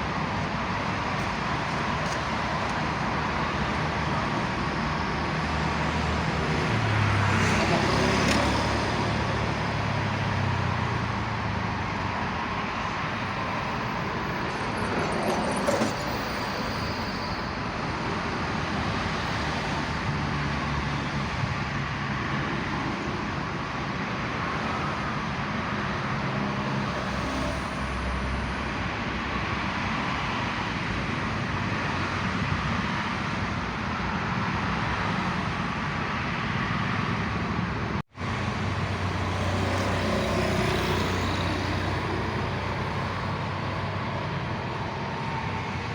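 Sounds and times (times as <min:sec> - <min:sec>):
vehicle rush and engine hum: 0:00.0 - 0:45.9.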